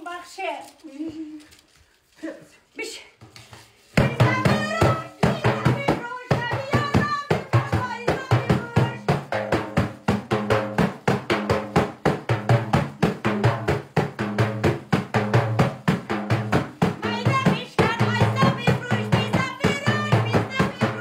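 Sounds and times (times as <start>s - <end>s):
frame drum beaten by hand: 4.0s - 21.0s.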